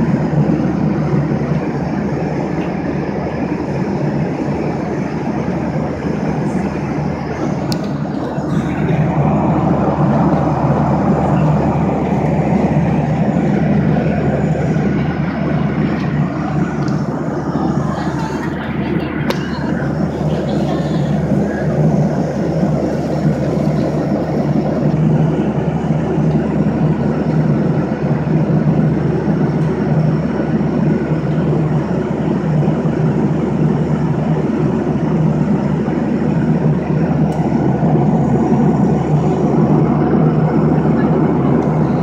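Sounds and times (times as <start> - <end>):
jet engine and airflow rush: 0.0 - 42.0
low hum: 0.0 - 42.0.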